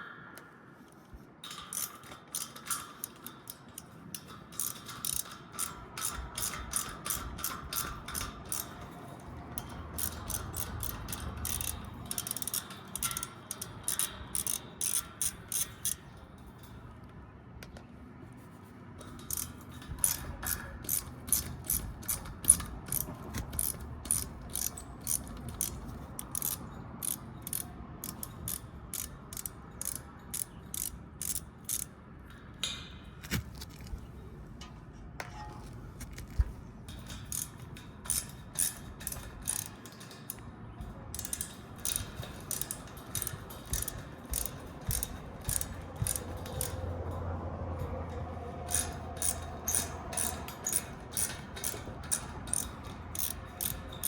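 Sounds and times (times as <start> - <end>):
hand ratchet clicking: 1.4 - 16.8, 19.0 - 34.0, 36.0 - 54.0.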